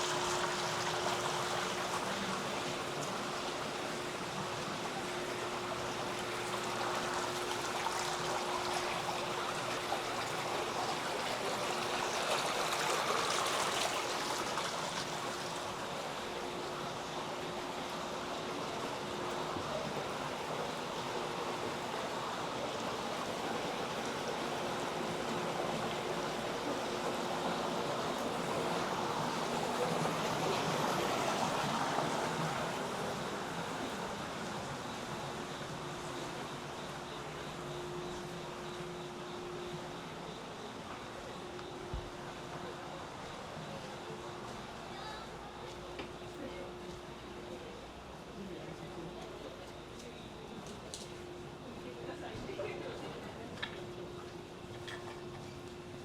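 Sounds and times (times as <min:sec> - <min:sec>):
running water rushing: 0:00.0 - 0:45.9
faint steady hum: 0:00.0 - 0:56.0.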